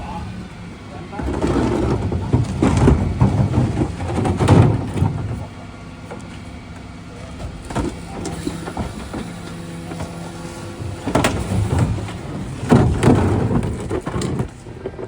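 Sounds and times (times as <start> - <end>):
refuse truck clatter and knocking: 0.0 - 15.0
truck engine running: 0.0 - 15.0.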